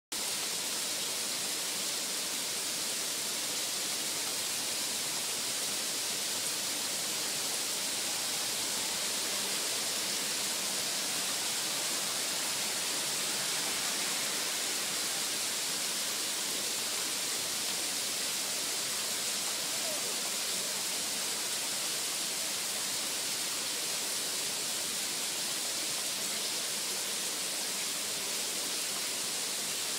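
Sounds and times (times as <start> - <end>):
steady rain hiss: 0.2 - 29.9.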